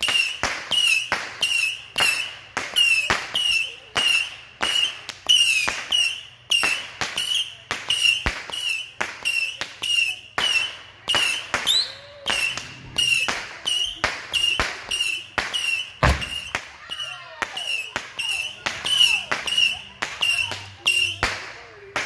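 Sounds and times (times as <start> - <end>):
fireworks cracking with whistles: 0.0 - 22.0.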